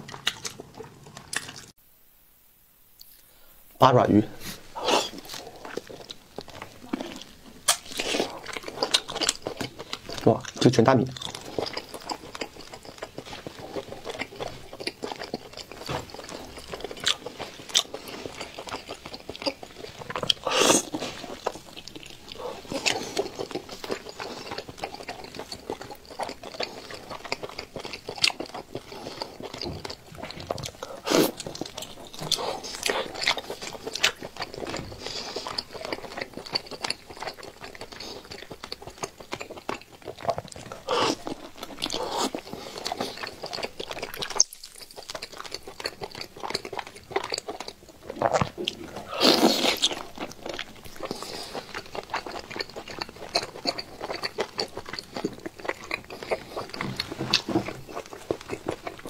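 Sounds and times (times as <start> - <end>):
wet crackly chewing: 0.0 - 1.8, 4.7 - 59.0.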